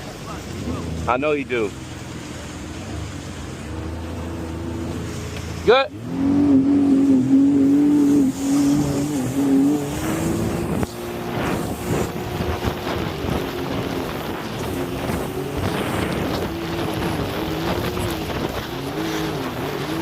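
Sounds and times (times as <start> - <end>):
jet ski engine at high revs: 0.0 - 20.0
water noise: 0.0 - 20.0
wind: 0.0 - 20.0.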